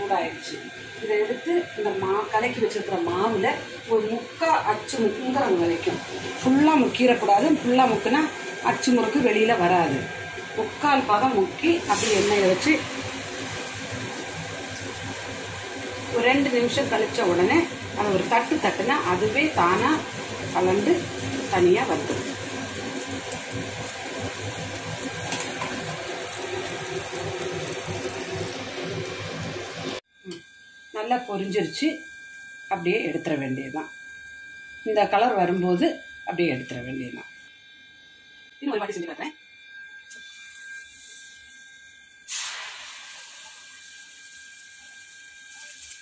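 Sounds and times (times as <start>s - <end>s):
batter sizzling in hot oil: 4.6s - 37.0s, 39.5s - 46.0s.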